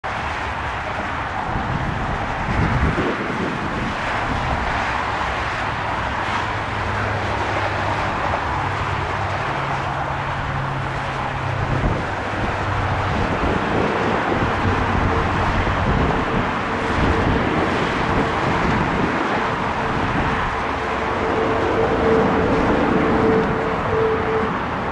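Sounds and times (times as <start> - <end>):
jet airliner rushing noise: 0.0 - 24.9.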